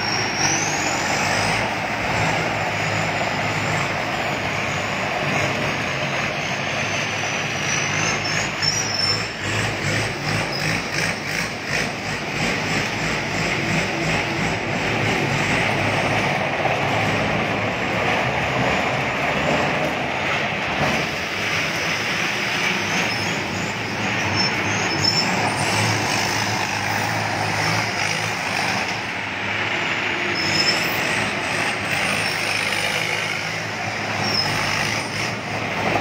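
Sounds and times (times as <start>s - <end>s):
combine harvester engine running: 0.0s - 36.0s.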